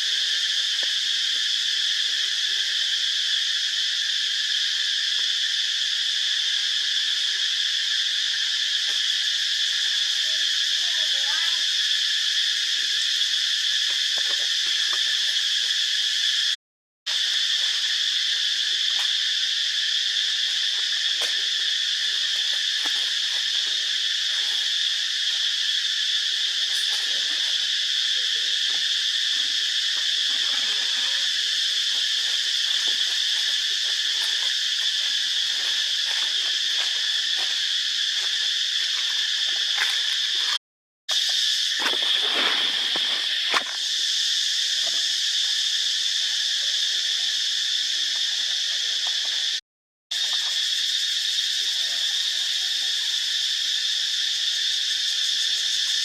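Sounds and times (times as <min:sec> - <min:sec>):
insect chorus droning: 0:00.0 - 0:56.0.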